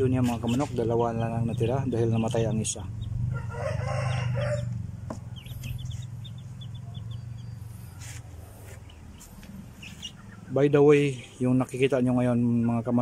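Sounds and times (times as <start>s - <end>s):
chicks peeping: 0.0s - 13.0s
steady low hum: 0.0s - 13.0s
chicken calling: 0.2s - 11.0s.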